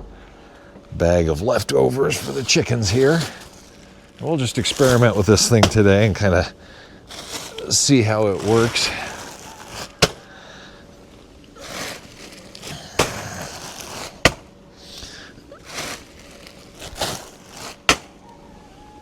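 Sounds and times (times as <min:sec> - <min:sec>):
bag crinkling rustles: 0:01.2 - 0:18.2.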